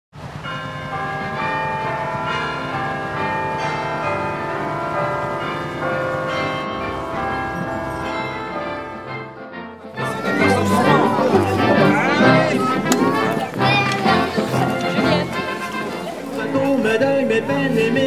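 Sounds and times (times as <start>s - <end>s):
church bells ringing: 0.2s - 18.0s.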